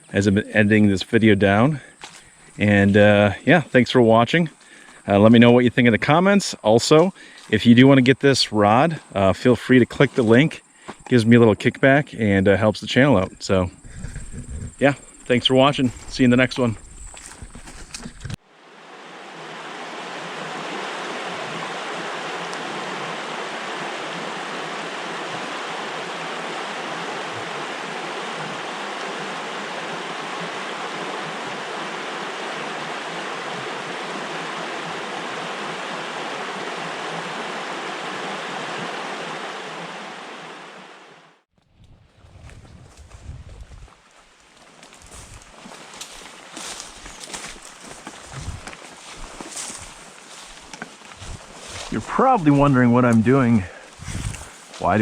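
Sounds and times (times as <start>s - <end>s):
stream water rushing: 0.0s - 12.0s, 14.8s - 41.4s, 44.8s - 55.0s.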